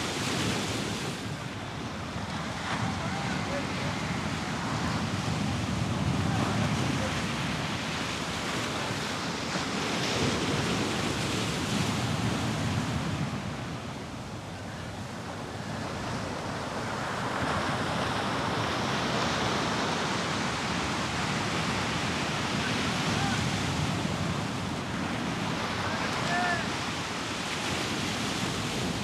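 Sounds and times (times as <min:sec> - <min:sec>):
ocean surf breaking: 0:00.0 - 0:29.0.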